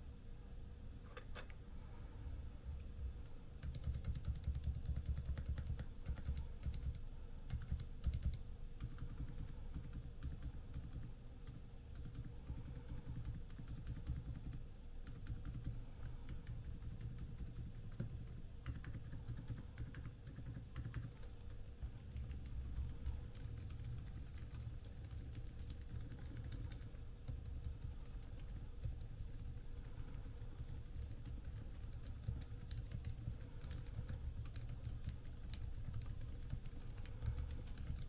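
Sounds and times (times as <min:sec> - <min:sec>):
fast typing on keyboard: 0:03.6 - 0:38.0.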